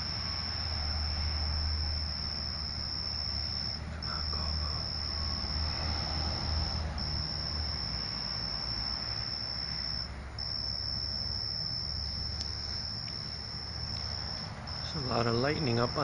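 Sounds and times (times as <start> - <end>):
crickets trilling: 0.0 - 16.0
low steady rumble: 0.0 - 16.0.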